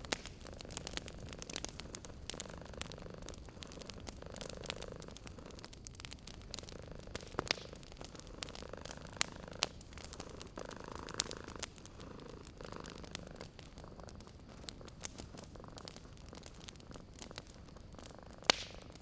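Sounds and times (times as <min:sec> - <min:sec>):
wood fire crackling and popping: 0:00.0 - 0:19.0
cat purring: 0:00.3 - 0:19.0.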